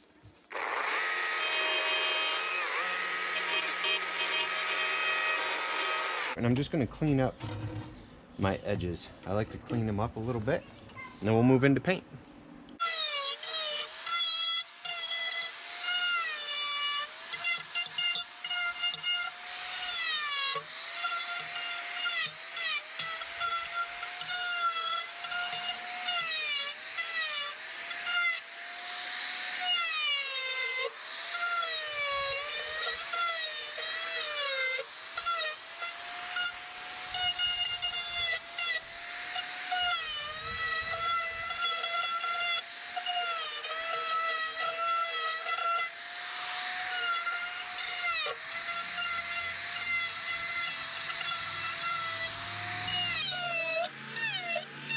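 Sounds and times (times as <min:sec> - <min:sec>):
die grinder whining: 0:00.5 - 0:06.4, 0:12.8 - 0:54.9.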